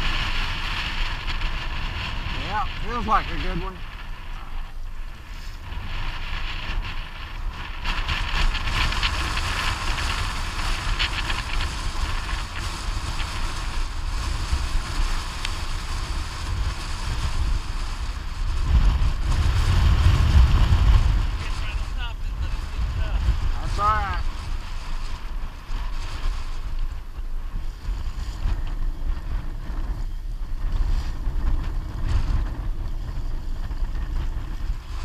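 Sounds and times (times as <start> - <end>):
boat motor droning: 0.0 - 35.0
wind buffeting microphone: 0.0 - 35.0.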